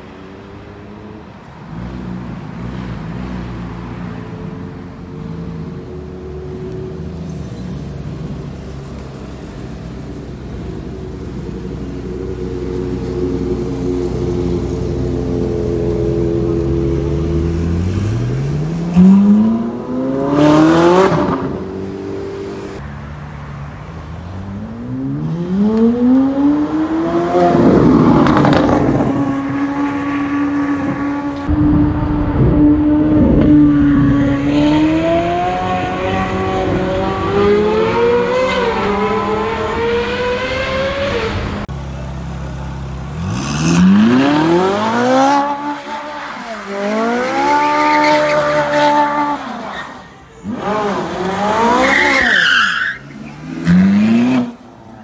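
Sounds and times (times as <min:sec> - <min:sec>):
sports car engines revving: 0:00.0 - 0:55.0.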